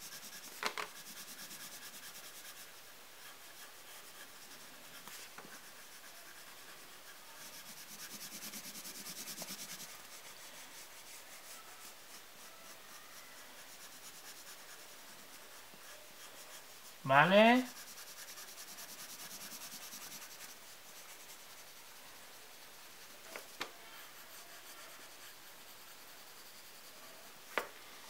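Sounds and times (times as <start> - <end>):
pencil shading on paper: 0.0 - 28.0.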